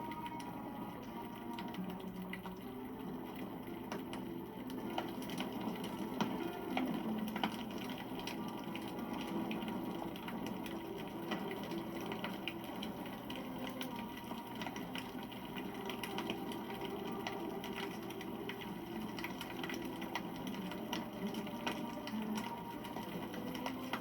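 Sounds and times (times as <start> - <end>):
campfire flames rushing: 0.1 - 24.0.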